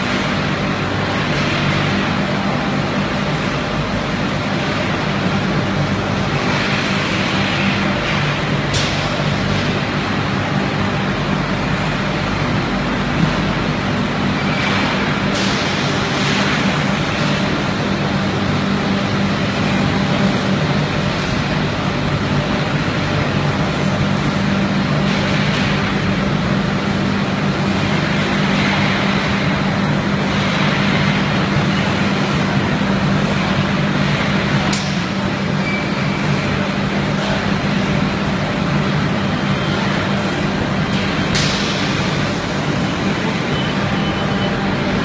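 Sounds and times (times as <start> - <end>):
broad rushing noise: 0.0 - 45.0
factory machinery drone: 0.0 - 45.0.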